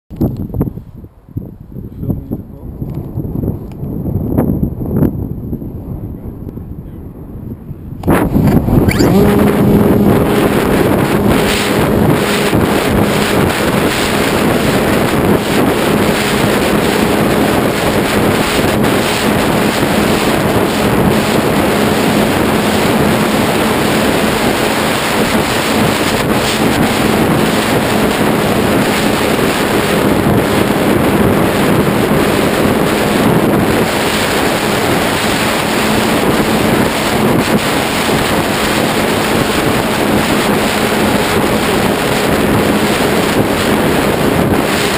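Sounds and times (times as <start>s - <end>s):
wind buffeting microphone: 0.1s - 44.9s
electric motor and propeller hum: 8.0s - 44.9s.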